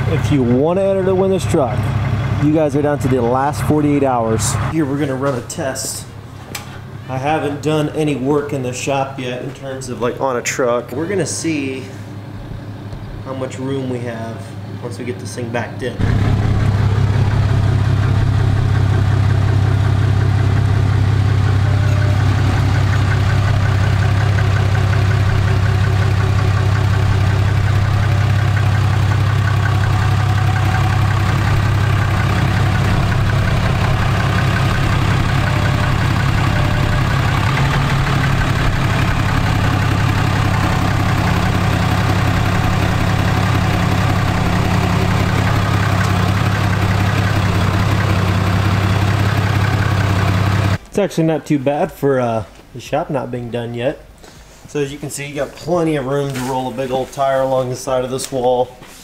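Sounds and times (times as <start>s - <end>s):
truck engine idling: 0.0s - 13.2s, 16.0s - 50.8s.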